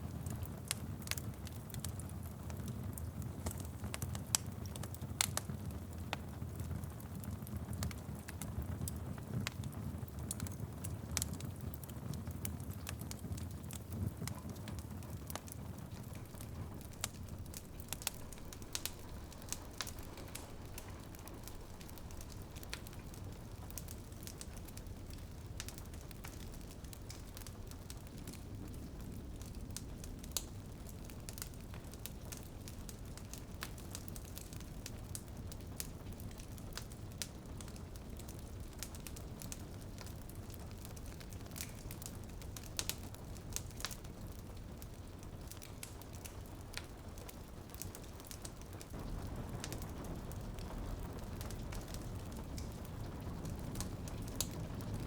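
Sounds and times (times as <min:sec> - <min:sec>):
rain pattering on a window: 0:00.0 - 0:55.0
wood fire crackling and popping: 0:00.0 - 0:55.0.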